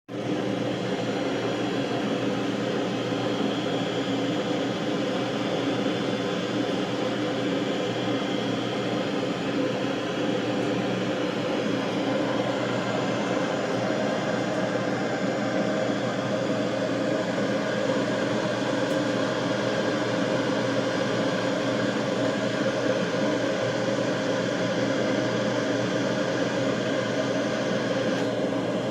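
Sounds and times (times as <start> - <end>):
laser engraver whirring: 0.2 - 28.9.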